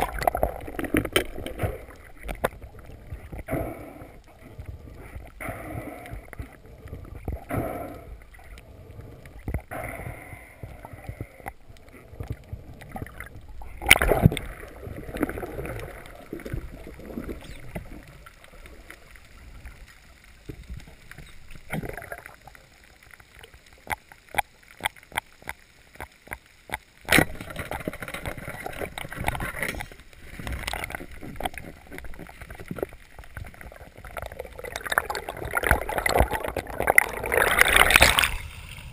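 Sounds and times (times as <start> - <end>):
sharp underwater clicks: 0.0 - 38.9
soft underwater pulses: 0.0 - 38.9
water rushing and gurgling: 0.0 - 38.9.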